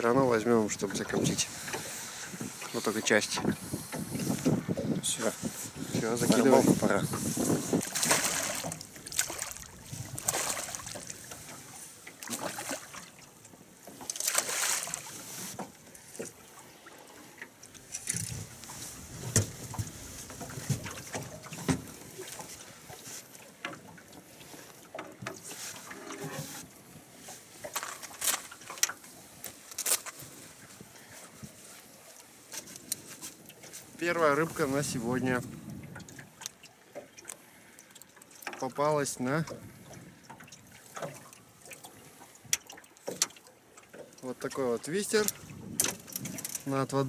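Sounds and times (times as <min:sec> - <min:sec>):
knocks and bumps in a boat: 0:00.0 - 0:29.2, 0:38.4 - 0:47.0.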